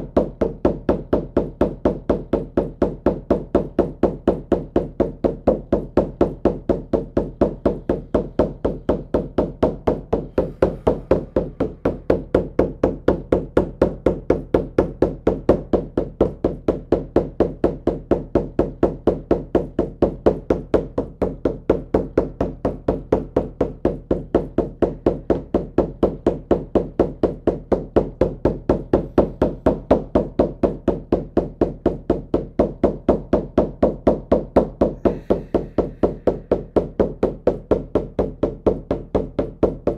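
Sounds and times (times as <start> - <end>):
hand drum beating rapidly: 0.0 - 39.9.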